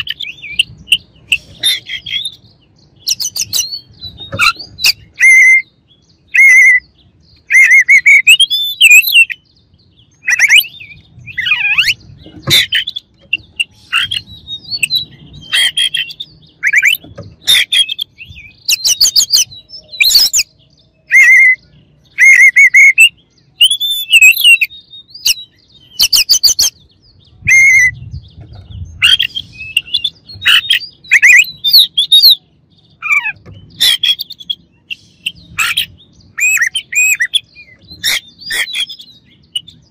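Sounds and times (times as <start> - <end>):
bird singing whistles: 0.0 - 28.3, 28.9 - 39.9.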